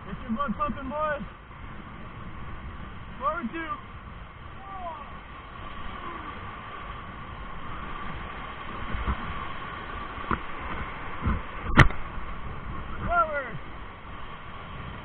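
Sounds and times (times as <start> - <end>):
rushing whitewater: 0.0 - 15.0
waves thumping a raft: 0.0 - 15.0.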